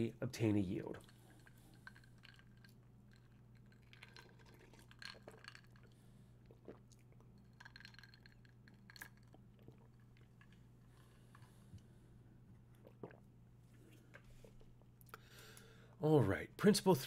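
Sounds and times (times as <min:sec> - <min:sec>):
low steady hum: 0:00.0 - 0:17.0
person sipping and swallowing: 0:01.0 - 0:11.9, 0:12.5 - 0:15.3.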